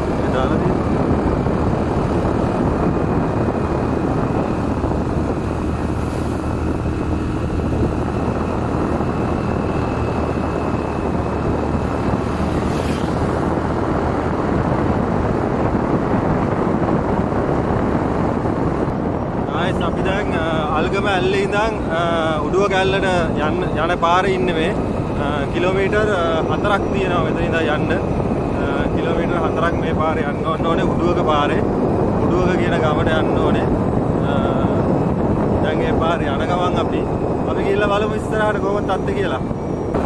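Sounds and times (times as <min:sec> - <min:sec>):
engine hum: 0:00.0 - 0:40.0
wind rushing over microphone: 0:00.0 - 0:40.0.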